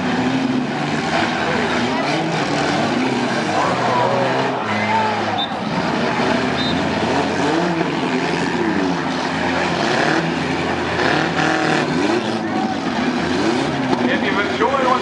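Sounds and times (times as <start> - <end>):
car engines revving: 0.0 - 15.0
engines rumbling: 0.0 - 15.0.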